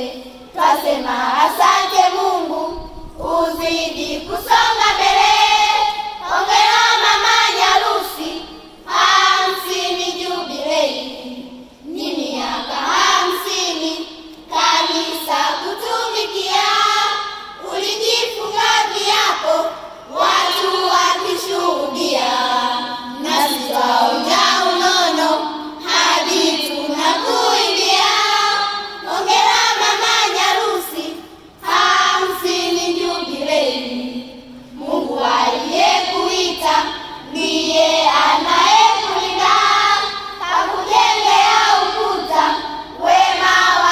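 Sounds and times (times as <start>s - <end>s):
children singing in chorus: 0.0s - 43.9s.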